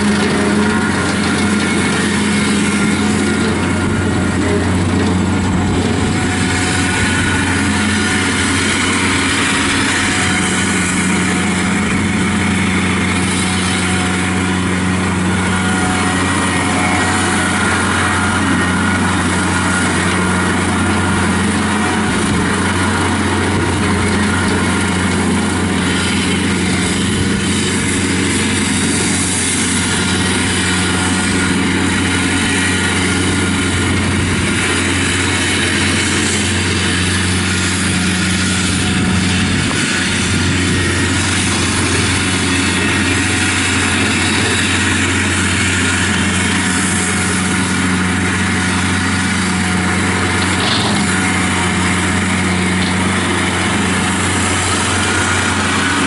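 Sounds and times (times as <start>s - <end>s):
rotary cutter mowing grass: 0.0s - 56.0s
tractor diesel engine running: 0.0s - 56.0s.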